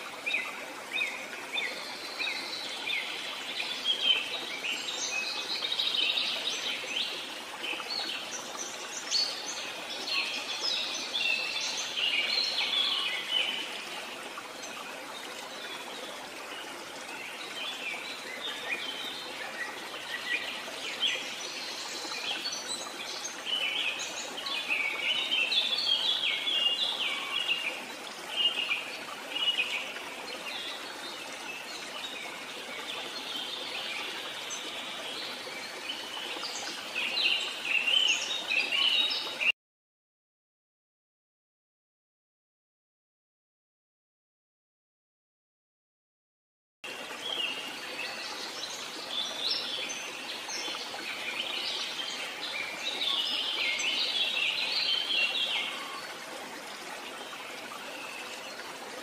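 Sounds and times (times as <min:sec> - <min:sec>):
flowing stream water: 0:00.0 - 0:39.5, 0:46.8 - 0:59.0.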